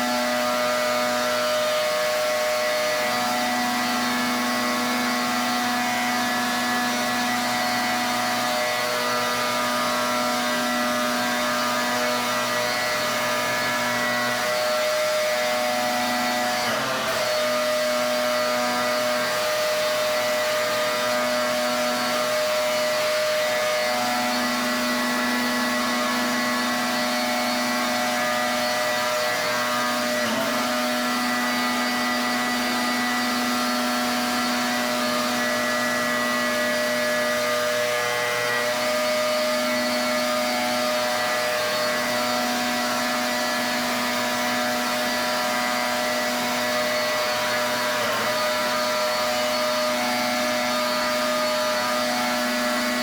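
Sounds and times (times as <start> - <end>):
pressure washer motor hum: 0.0 - 53.0.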